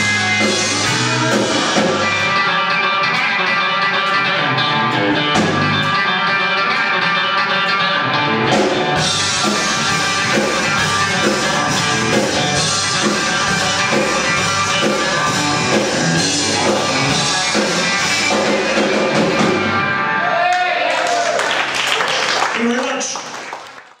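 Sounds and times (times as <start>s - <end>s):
drum kit: 0.0s - 20.0s
electric guitar: 0.0s - 20.3s
bass guitar: 0.0s - 20.4s.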